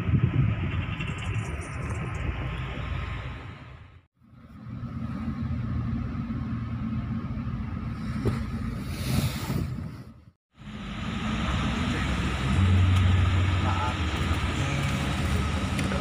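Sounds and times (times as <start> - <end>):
diesel bus engine rumble: 0.0 - 16.0.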